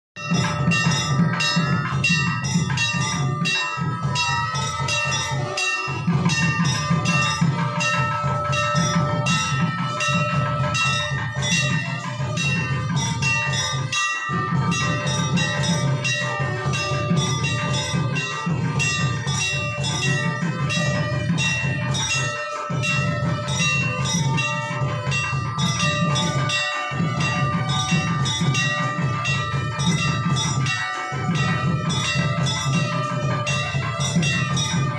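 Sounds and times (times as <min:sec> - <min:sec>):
temple bells ringing rapidly: 0:00.2 - 0:34.9.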